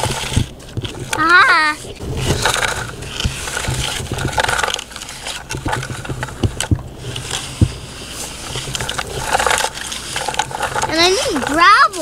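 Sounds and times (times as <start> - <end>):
toy scraping through wet mud: 0.0 - 12.0.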